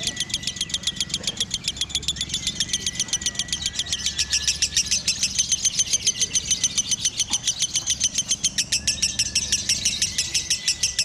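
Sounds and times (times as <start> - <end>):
bird chattering rapid high chirps: 0.0 - 11.0.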